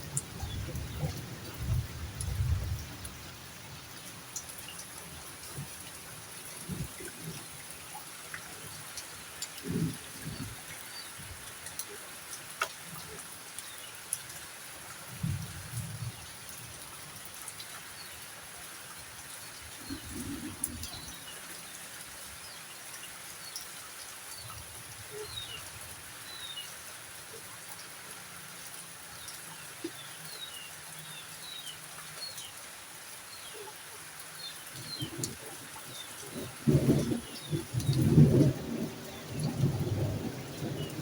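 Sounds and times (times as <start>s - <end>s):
rain hissing: 0.0s - 41.0s.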